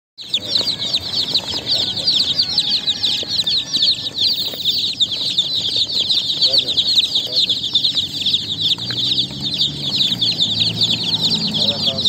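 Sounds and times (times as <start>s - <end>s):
baby chicks peeping: 0.2s - 12.0s.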